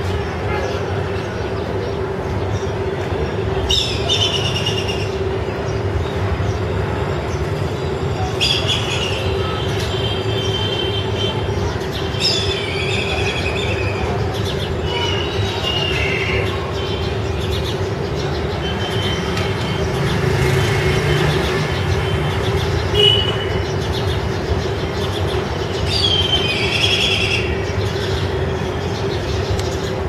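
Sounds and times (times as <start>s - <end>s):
harsh bird calls: 0.0s - 30.0s.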